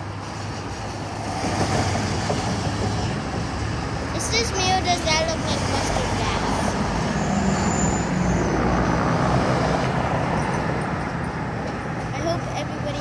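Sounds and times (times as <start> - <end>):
freeway traffic passing: 0.0 - 13.0.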